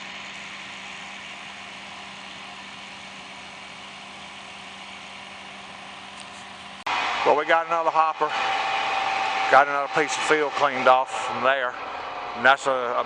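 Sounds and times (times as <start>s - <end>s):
combine harvester machinery droning: 0.0s - 13.0s.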